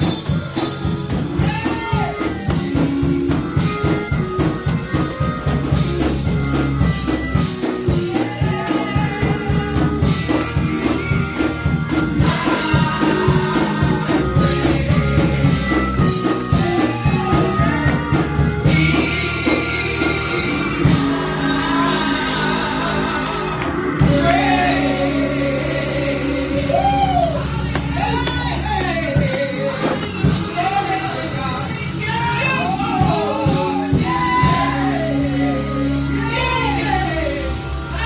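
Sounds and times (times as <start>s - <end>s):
tambourine shaken and struck: 0.0s - 22.5s, 23.8s - 35.0s, 35.6s - 38.0s
gospel singing over a band: 0.0s - 38.0s.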